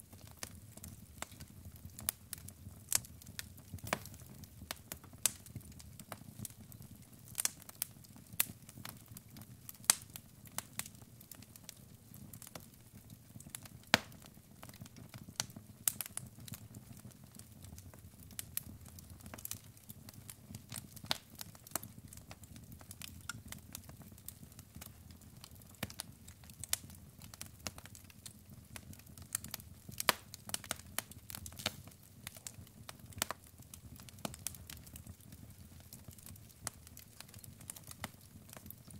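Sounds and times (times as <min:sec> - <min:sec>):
logs crackling and popping: 0:00.0 - 0:38.9.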